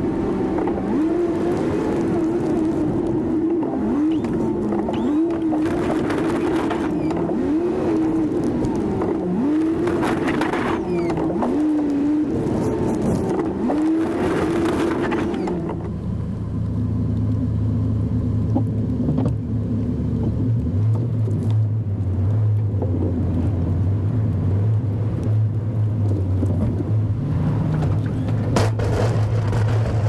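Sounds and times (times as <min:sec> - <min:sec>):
truck engine drone: 0:00.0 - 0:30.0.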